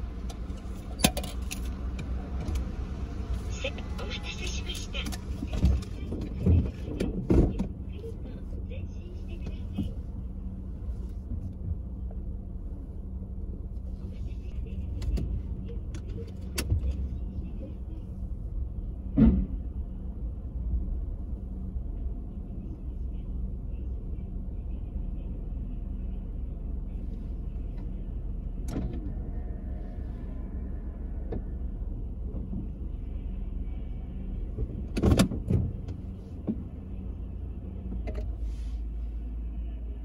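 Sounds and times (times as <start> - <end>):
car wash low rumble: 0.0 - 40.0.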